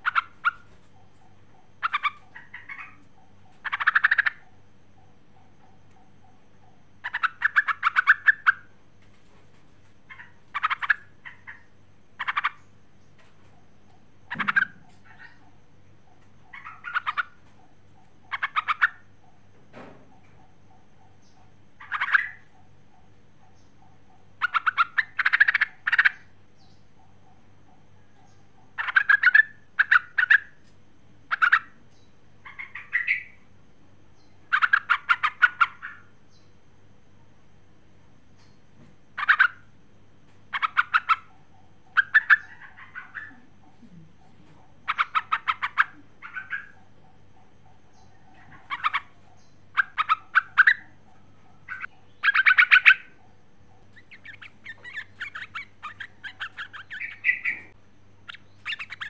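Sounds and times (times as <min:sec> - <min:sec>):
bird chattering calls: 0:00.0 - 0:08.7, 0:10.0 - 0:19.4, 0:20.2 - 0:30.6, 0:31.3 - 0:33.5, 0:34.2 - 0:36.6, 0:39.2 - 0:39.7, 0:40.5 - 0:59.0.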